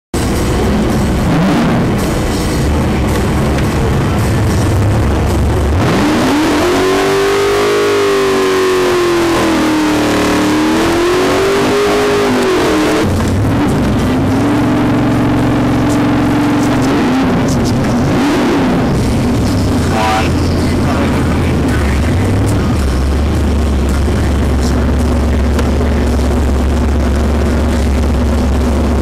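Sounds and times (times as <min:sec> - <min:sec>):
car engine at full throttle: 0:00.1 - 0:29.0
rock music: 0:00.2 - 0:29.0.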